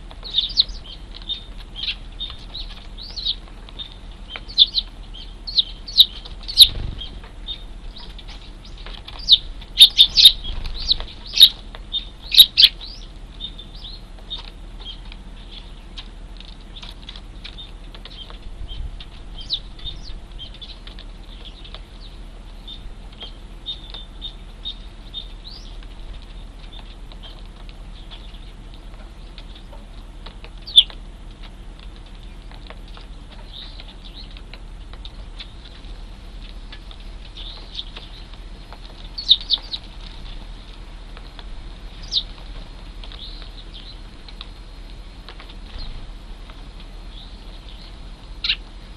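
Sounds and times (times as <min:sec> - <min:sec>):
young sparrows chirping: 0:00.0 - 0:31.4, 0:32.0 - 0:48.9.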